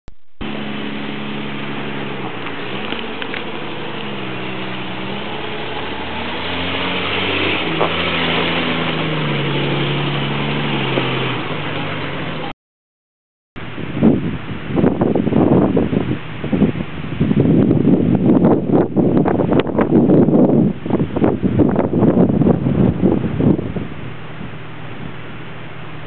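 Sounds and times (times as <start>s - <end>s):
car engine running at low revs: 0.1s - 12.5s, 13.6s - 26.0s.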